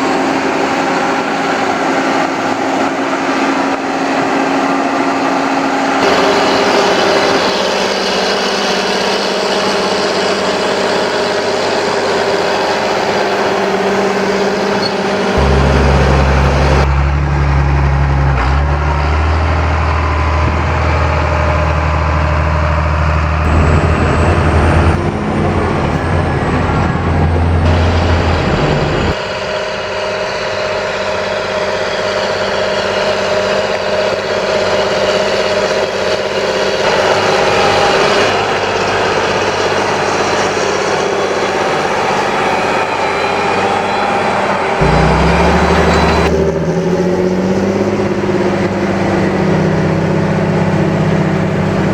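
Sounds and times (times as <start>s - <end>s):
tractor diesel engines running: 0.0s - 51.9s.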